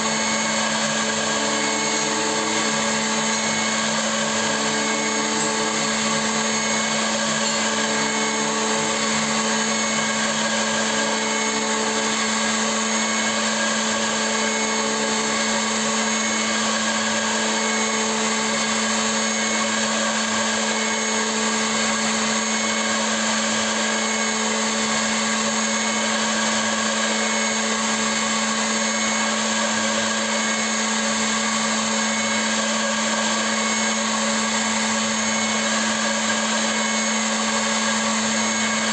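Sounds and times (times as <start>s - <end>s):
milling machine humming: 0.0s - 38.9s.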